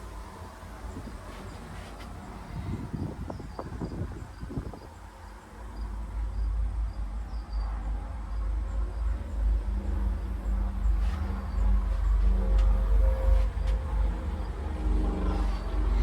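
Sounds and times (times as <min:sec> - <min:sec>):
low steady hum: 0:00.0 - 0:16.0
wind buffeting microphone: 0:00.0 - 0:16.0.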